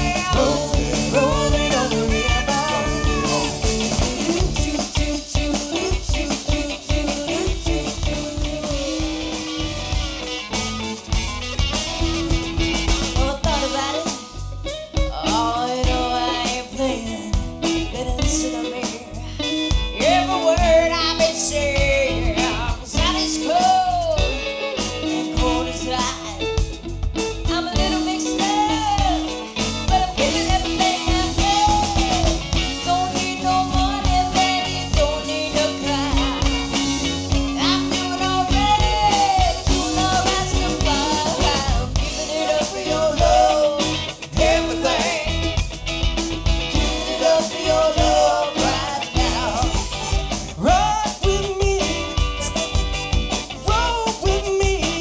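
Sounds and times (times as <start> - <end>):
woman singing: 0.0 - 9.6, 13.2 - 14.3, 15.0 - 26.5, 27.5 - 36.8, 37.4 - 45.4, 46.8 - 49.9, 53.6 - 55.0
bass guitar: 0.0 - 55.0
drum kit: 0.0 - 55.0
electric guitar: 0.0 - 55.0.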